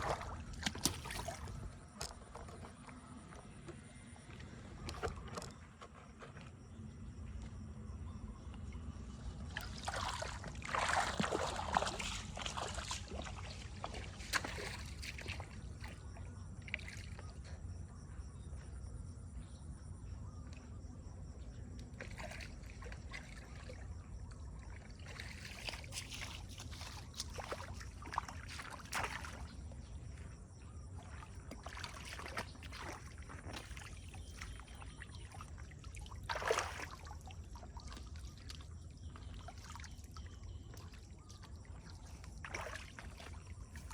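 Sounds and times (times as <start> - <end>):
water sloshing and splashing: 0.0 - 17.8, 21.3 - 43.9
low rumble of flowing water: 0.0 - 43.9.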